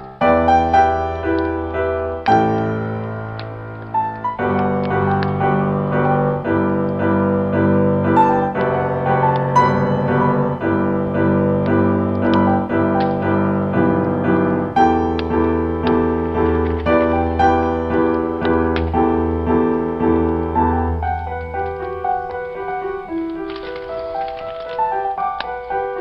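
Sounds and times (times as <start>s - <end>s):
solo piano piece: 0.0s - 26.0s.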